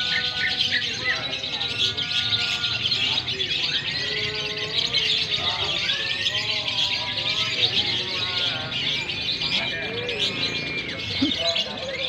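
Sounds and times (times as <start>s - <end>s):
birds twittering: 0.0s - 12.0s.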